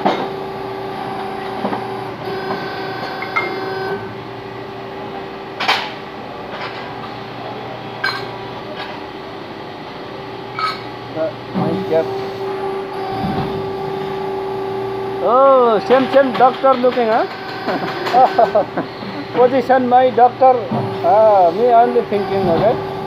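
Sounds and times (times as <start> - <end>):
hum of shop machinery: 0.0 - 23.0.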